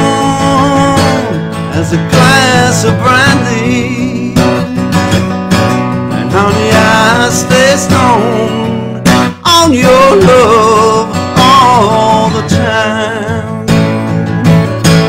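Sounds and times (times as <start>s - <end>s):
acoustic guitar strumming: 0.0s - 15.0s
bending lead guitar melody: 0.0s - 15.0s.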